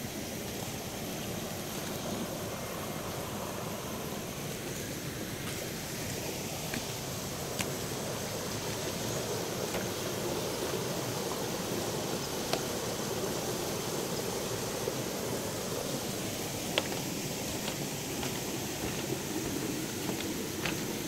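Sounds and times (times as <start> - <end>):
stream flowing over cascades: 0.0 - 21.0.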